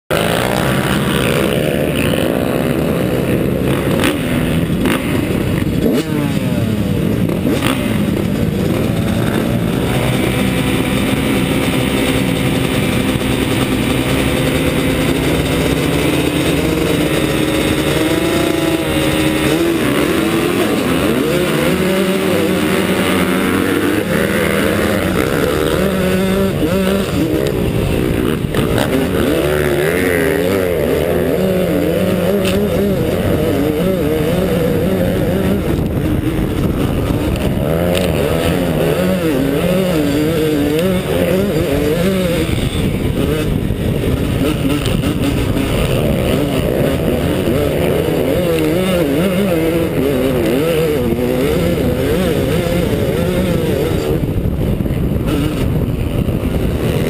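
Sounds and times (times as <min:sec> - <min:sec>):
motocross bikes revving: 0:00.0 - 0:57.0
two-stroke dirt bike accelerating: 0:00.1 - 0:57.0.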